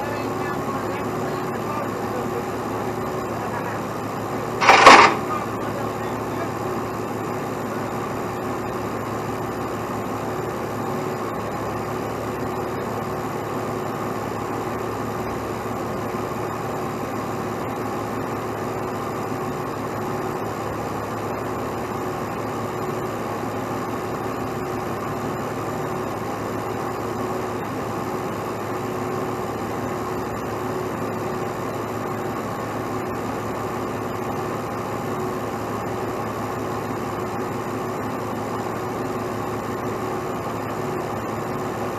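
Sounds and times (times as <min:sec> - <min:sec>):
heavy truck engine droning: 0:00.0 - 0:41.9.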